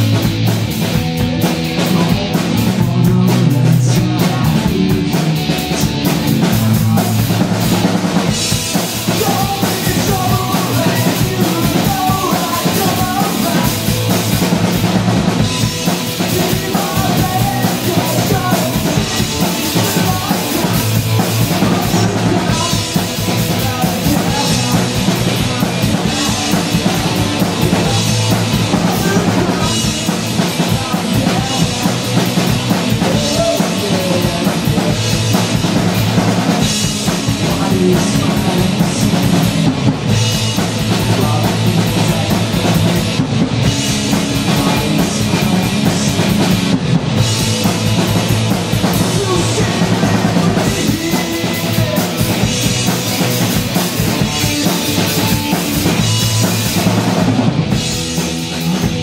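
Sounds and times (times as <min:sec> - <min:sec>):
drum kit: 0:00.0 - 0:59.0
electric guitar through an amp: 0:00.0 - 0:59.0.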